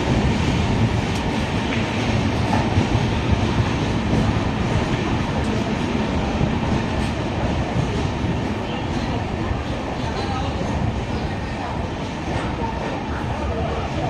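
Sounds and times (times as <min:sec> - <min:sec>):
train wheels rumbling on rails: 0:00.0 - 0:14.0
faint rail clacks: 0:00.4 - 0:14.0.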